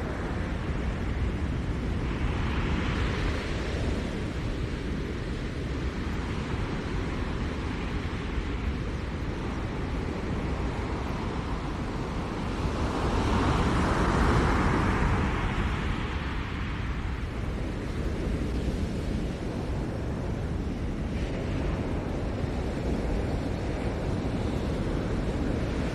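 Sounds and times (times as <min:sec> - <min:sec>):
steady rumble of waves: 0:00.0 - 0:25.9
wave breaking and washing in: 0:00.0 - 0:25.9.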